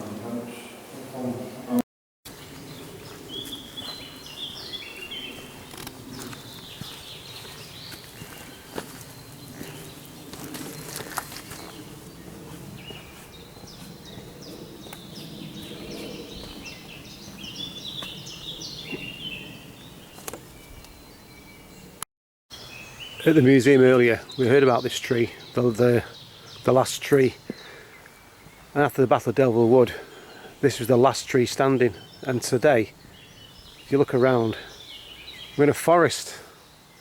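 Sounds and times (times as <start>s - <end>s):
outdoor background noise: 0.0s - 37.0s
birds singing: 2.3s - 37.0s.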